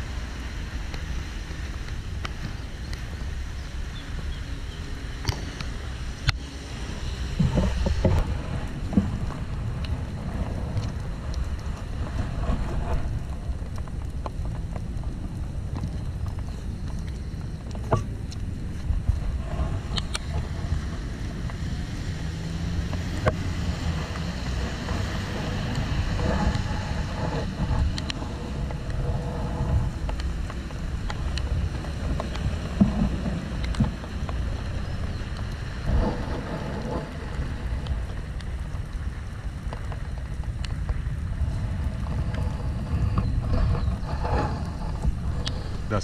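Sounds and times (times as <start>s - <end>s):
cars on wet road: 0.0s - 46.0s
rain hiss: 0.0s - 46.0s
wind buffeting microphone: 0.0s - 46.0s.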